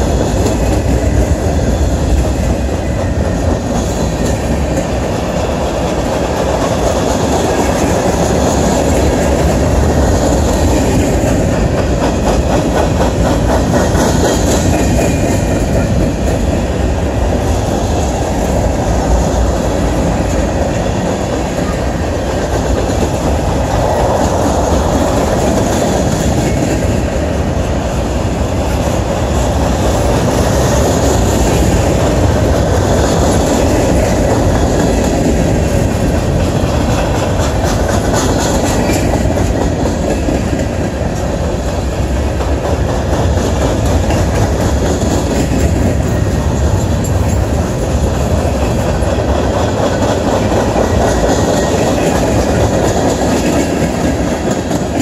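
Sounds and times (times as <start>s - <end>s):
freight train rumbling past: 0.0s - 55.0s
steel wheels clacking on rails: 0.0s - 55.0s.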